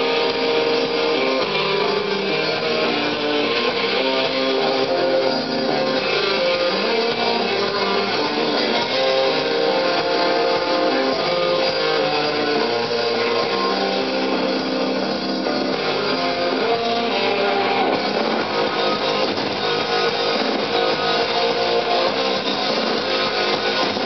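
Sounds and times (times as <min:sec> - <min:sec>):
electric guitars strumming: 0:00.0 - 0:24.0
punk rock band playing live: 0:00.0 - 0:24.0.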